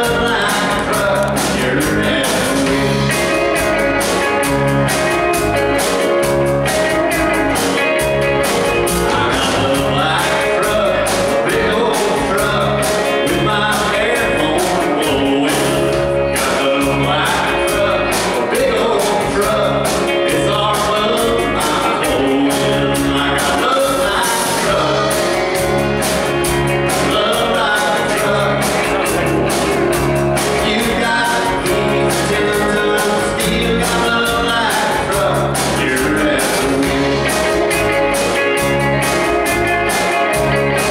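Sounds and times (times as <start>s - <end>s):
man singing lead vocal: 0.0s - 4.1s, 6.8s - 26.0s, 26.7s - 40.9s
drum kit beat: 0.0s - 40.9s
electric guitars: 0.0s - 40.9s.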